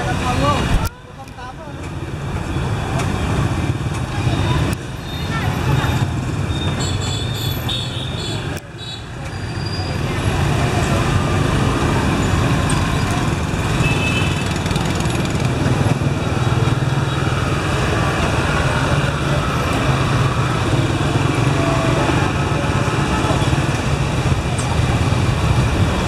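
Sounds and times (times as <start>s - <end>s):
motorbike engines running: 0.0s - 7.4s, 8.0s - 26.0s
street traffic: 0.0s - 26.0s.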